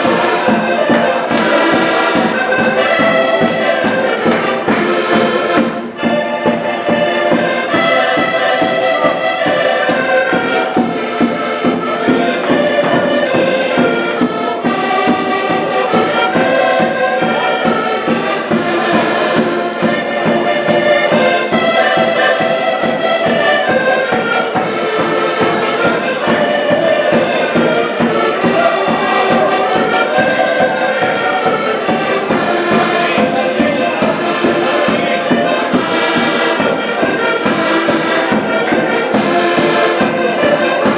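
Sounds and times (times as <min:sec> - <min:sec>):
button accordions playing folk tune: 0:00.0 - 0:40.9
plucked string instrument strumming: 0:00.0 - 0:40.9.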